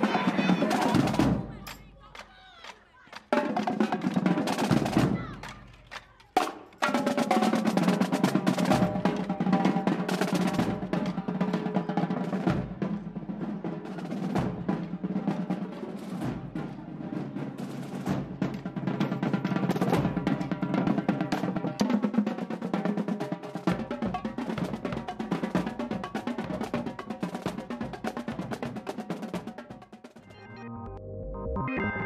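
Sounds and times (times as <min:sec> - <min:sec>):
drum-based background music: 0:00.0 - 0:02.3, 0:03.2 - 0:30.4.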